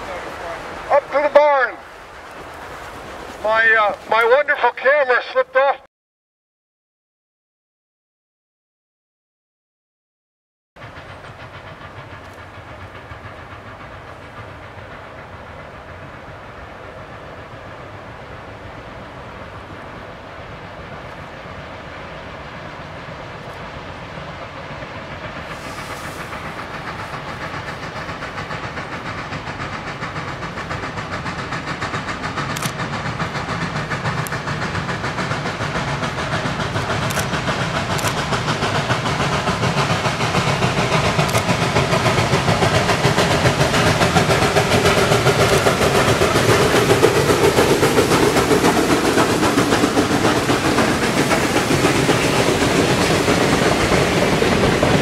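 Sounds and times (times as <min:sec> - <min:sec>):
steam locomotive passing: 0:00.0 - 0:05.9, 0:10.8 - 0:55.0.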